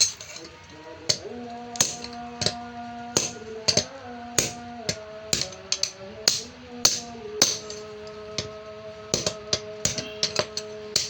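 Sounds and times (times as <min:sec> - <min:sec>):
background music with held notes: 0:00.0 - 0:11.0
hammer tapping on metal: 0:01.1 - 0:11.0.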